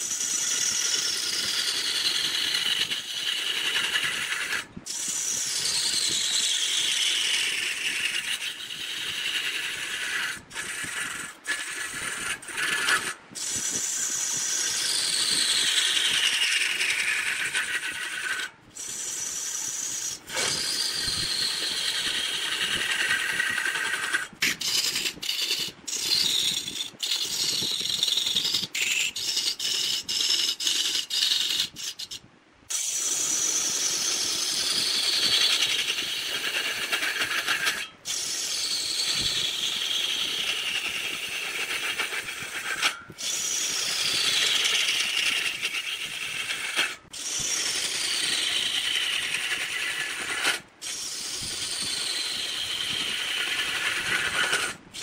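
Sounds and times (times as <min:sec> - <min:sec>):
wood lathe spinning: 0:00.0 - 0:32.1, 0:32.7 - 0:55.0
tool scraping spinning wood: 0:00.0 - 0:55.0.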